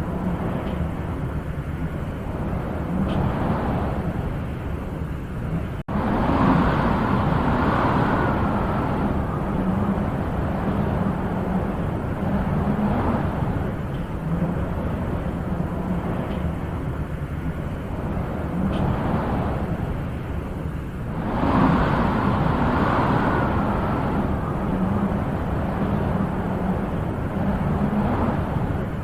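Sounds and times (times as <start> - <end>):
wind blowing with deep rumble: 0.0 - 29.0.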